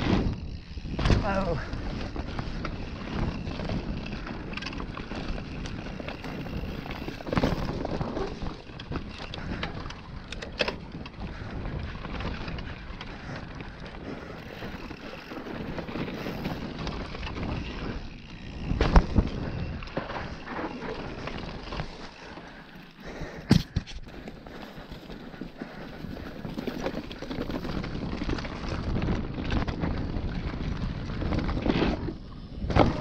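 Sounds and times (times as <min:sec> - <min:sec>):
wind noise on microphone: 0:00.0 - 0:21.8, 0:23.1 - 0:33.0
bike tyres on dirt: 0:00.0 - 0:33.0.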